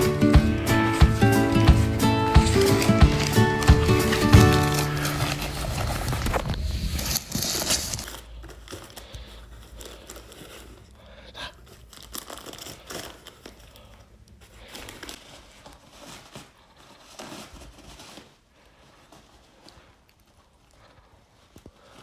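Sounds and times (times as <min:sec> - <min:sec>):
cardboard rustling: 0:00.0 - 0:11.0, 0:11.6 - 0:22.0
wrapping paper crinkling and tearing: 0:00.0 - 0:22.0.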